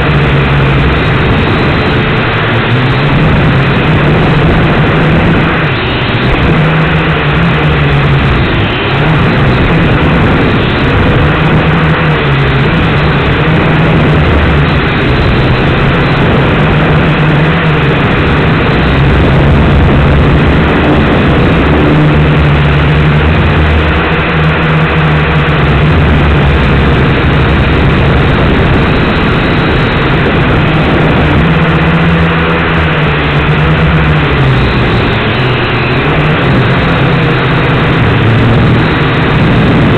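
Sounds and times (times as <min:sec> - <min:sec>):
quadcopter propellers buzzing: 0:00.0 - 0:39.9.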